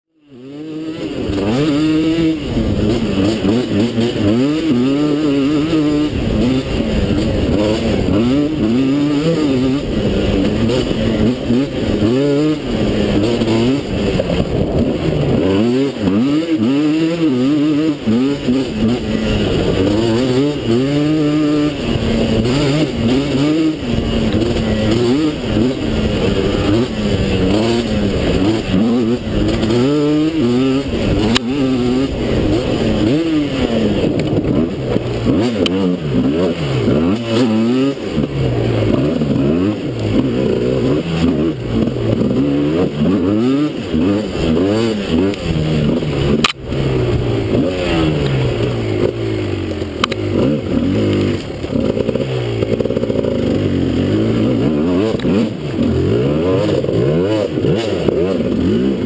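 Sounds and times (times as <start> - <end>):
quad two-stroke engine revving: 0.1 - 59.0.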